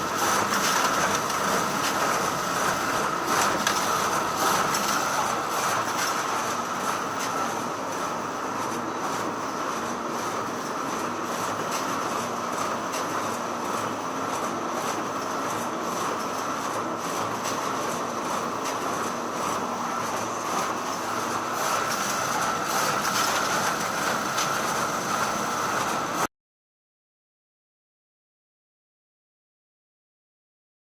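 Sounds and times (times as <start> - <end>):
photocopier whirring: 0.0 - 26.3.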